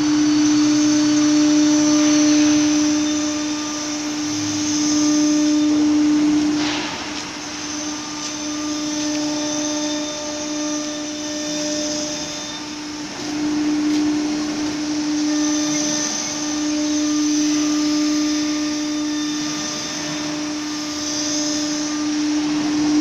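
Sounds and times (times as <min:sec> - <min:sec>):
router spindle high whine: 0:00.0 - 0:23.0.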